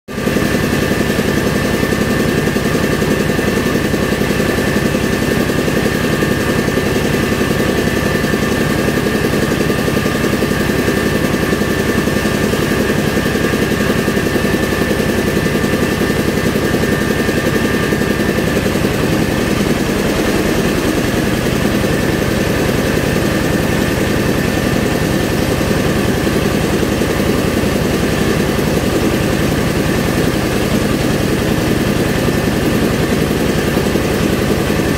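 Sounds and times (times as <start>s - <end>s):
engine chugging: 0.1s - 34.9s.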